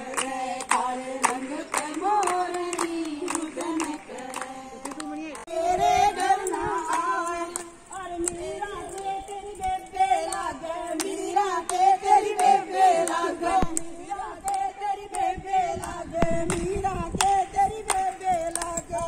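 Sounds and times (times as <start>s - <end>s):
hands clapping in rhythm: 0.0s - 19.0s
women singing in unison: 0.0s - 19.0s.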